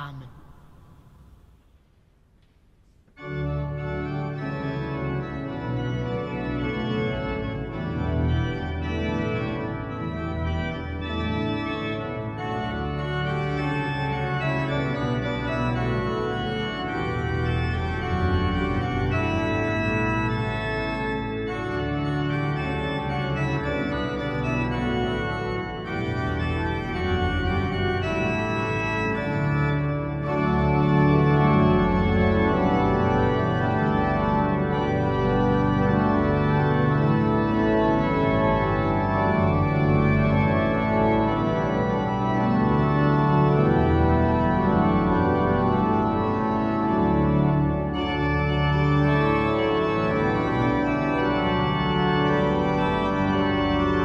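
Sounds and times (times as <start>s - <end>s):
church pipe organ playing: 3.2s - 54.0s.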